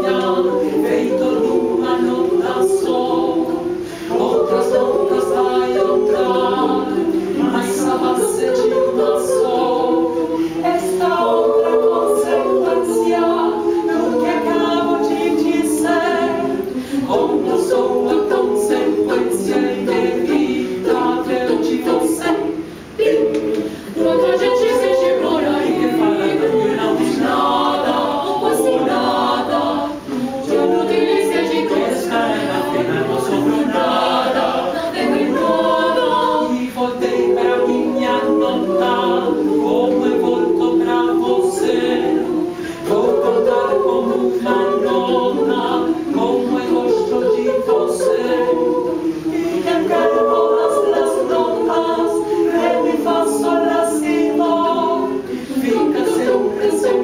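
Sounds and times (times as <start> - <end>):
mixed choir singing a cappella: 0.0 - 57.0.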